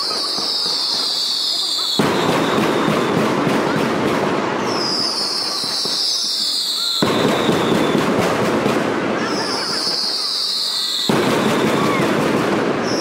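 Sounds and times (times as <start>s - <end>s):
firecrackers crackling bangs: 0.0s - 13.0s.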